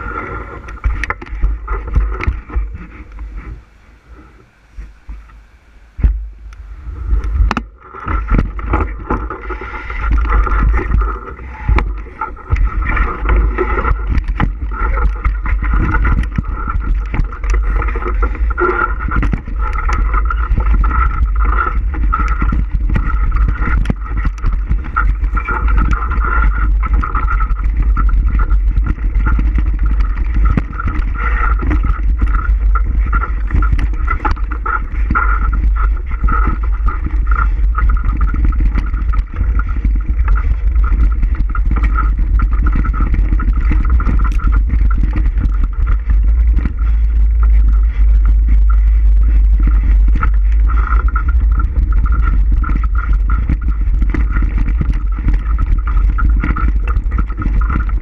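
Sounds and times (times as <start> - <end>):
bike clicks and rattles: 0.0 - 3.6, 6.0 - 58.0
wind on microphone: 0.0 - 58.0.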